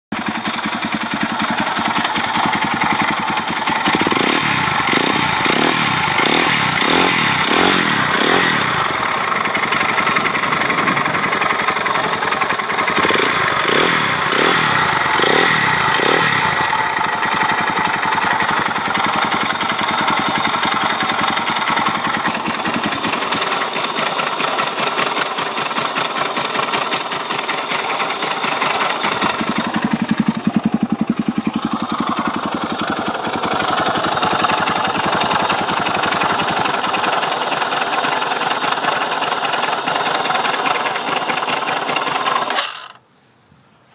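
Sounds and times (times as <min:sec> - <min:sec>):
engine knock: 0:00.1 - 0:43.0
motorcycle engine revving: 0:00.2 - 0:43.0.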